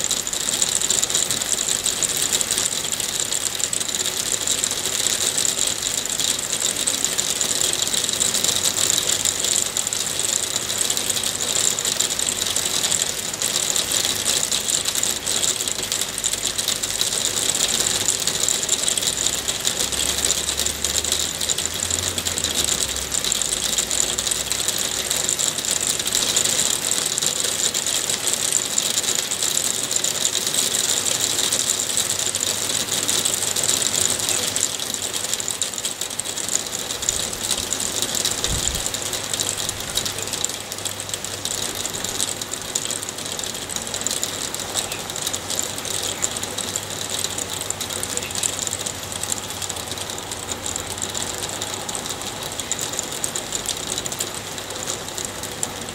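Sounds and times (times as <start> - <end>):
hail falling: 0.0 - 55.9.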